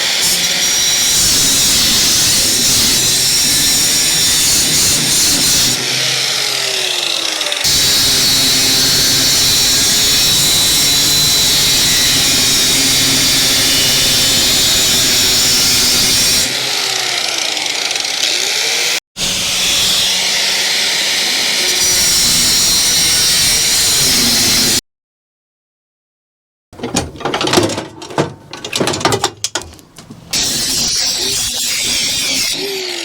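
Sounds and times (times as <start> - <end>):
power tool running: 0.0 - 24.7, 30.3 - 33.0.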